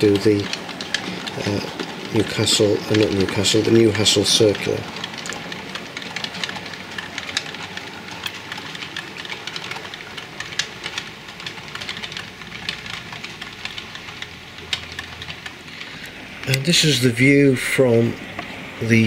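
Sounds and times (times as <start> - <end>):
model train running rumble: 0.0 - 19.0
wheels clicking on rails: 0.0 - 19.0.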